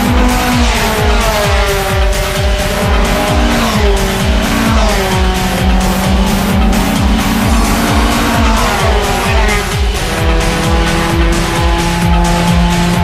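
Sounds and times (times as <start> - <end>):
electronic music: 0.0 - 13.0
fast drum beat: 0.0 - 13.0
held synth notes: 0.0 - 13.0.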